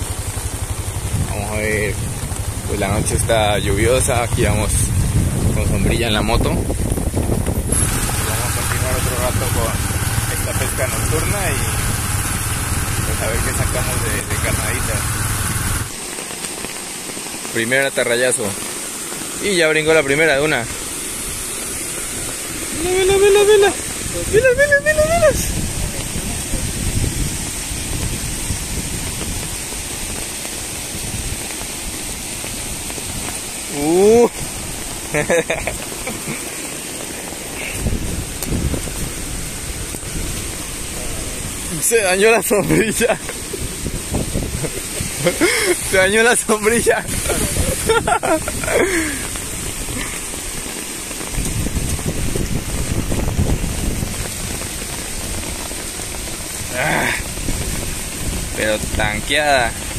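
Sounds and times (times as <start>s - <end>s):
wind buffeting microphone: 0.0s - 16.0s, 19.3s - 59.9s
steady rain falling: 0.0s - 59.9s.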